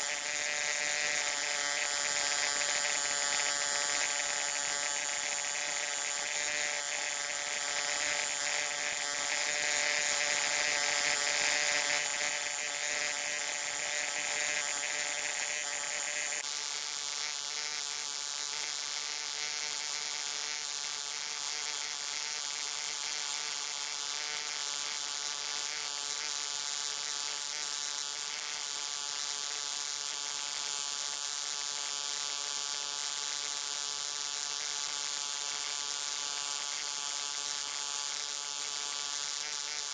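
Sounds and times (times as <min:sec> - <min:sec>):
electric arc buzzing with hiss: 0:00.0 - 0:39.9.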